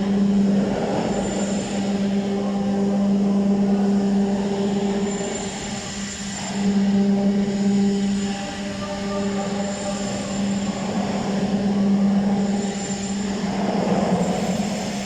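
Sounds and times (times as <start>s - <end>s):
industrial machinery drone: 0.0s - 15.0s.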